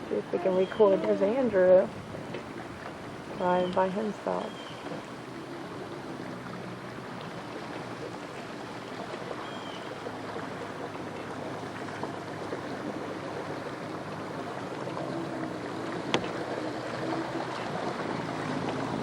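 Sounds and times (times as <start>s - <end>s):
distant small boat engine hum: 0.0s - 19.0s
outdoor noise: 0.0s - 19.0s
water washing: 0.0s - 19.0s.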